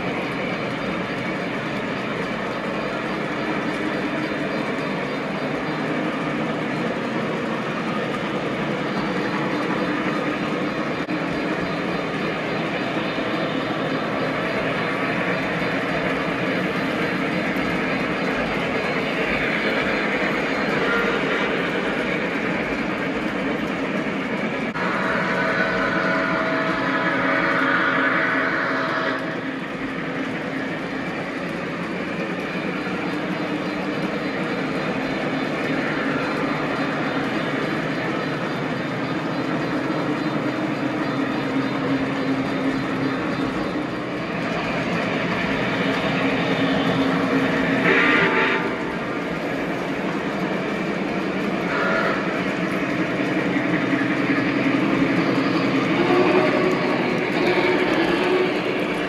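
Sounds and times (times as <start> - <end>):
model train rumbling on track: 0.0 - 59.0.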